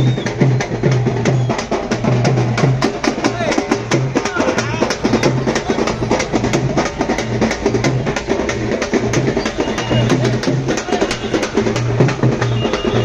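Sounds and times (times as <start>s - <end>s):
fast dense drumming: 0.0s - 13.0s.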